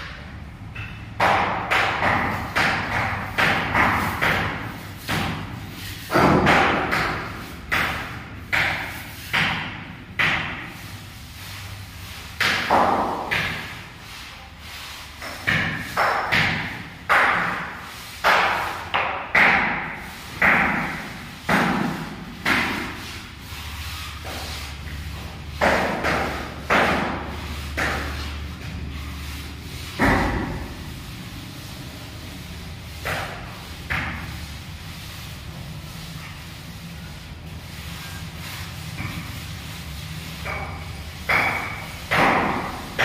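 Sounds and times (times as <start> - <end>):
trowel stroking cement floor: 0.9 - 43.0.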